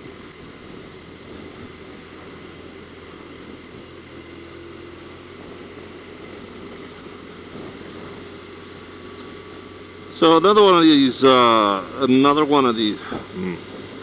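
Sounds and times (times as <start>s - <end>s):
motorcycle engine cruising: 0.0s - 14.0s
wind and road noise: 0.0s - 14.0s.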